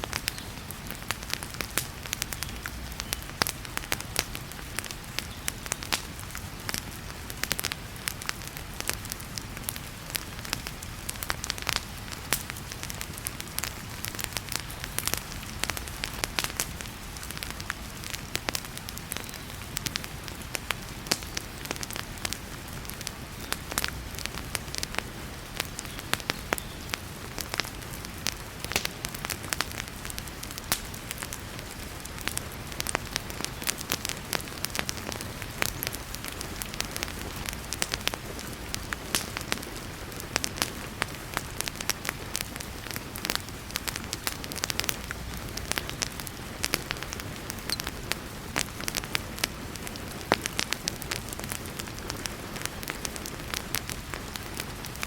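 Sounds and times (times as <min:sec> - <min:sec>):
heavy rain hiss: 0:00.0 - 0:55.0
wood fire crackling: 0:00.0 - 0:55.0.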